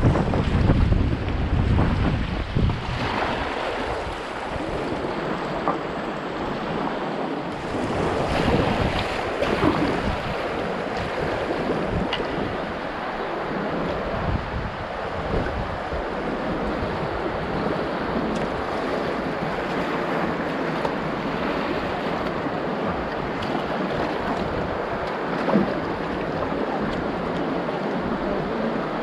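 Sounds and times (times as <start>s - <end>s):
river water rushing and splashing: 0.0s - 29.0s
wind noise on microphone: 0.0s - 29.0s.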